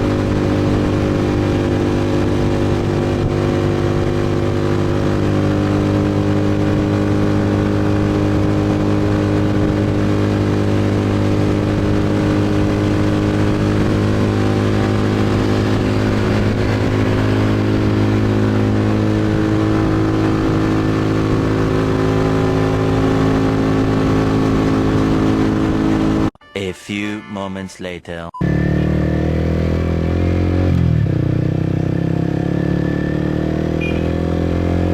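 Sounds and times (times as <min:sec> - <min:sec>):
motorcycle engine running: 0:00.0 - 0:26.3, 0:28.4 - 0:34.9.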